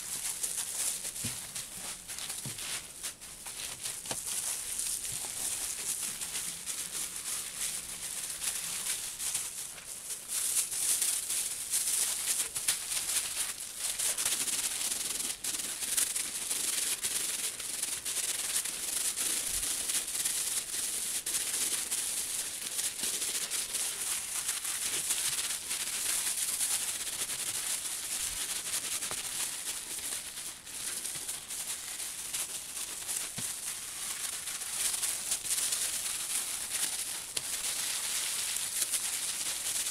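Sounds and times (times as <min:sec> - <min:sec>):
hissing rub with small crackles: 0:00.0 - 0:39.9.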